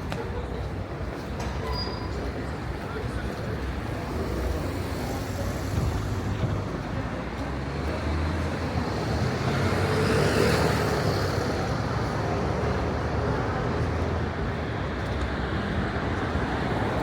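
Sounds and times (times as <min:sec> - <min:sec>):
traffic engine hum: 0:00.0 - 0:17.0.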